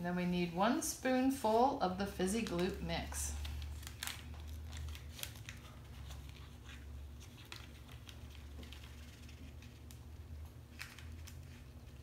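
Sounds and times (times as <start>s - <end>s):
low steady hum: 0.0s - 12.0s
paper packet rustling: 2.3s - 12.0s.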